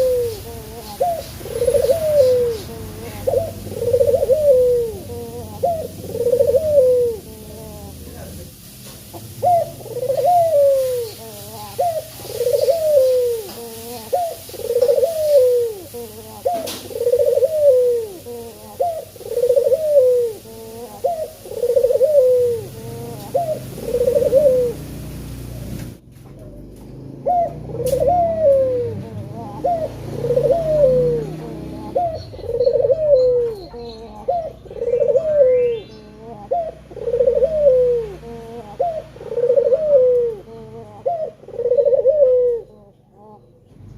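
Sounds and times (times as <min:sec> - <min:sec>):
dove cooing: 0:00.0 - 0:43.6.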